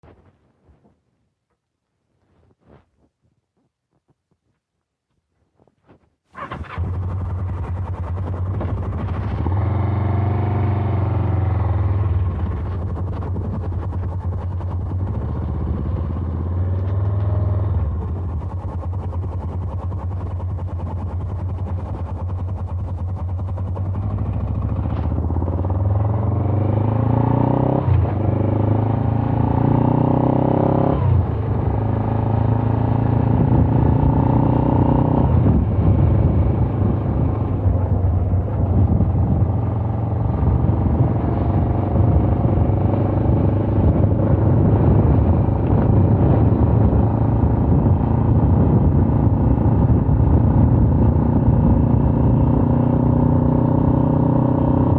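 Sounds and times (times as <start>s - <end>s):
motorcycle engine accelerating: 6.3s - 54.9s.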